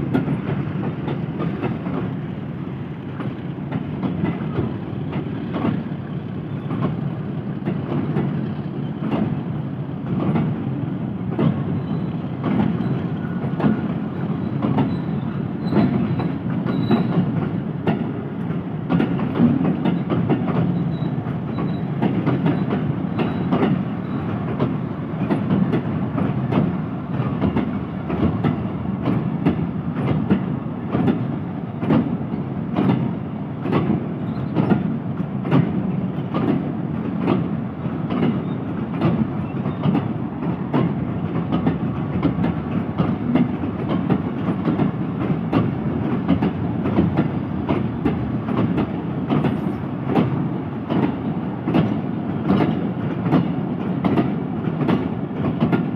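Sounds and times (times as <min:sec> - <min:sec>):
freight train rumble: 0:00.0 - 0:55.9
wheels clacking over rail joints: 0:00.0 - 0:55.9.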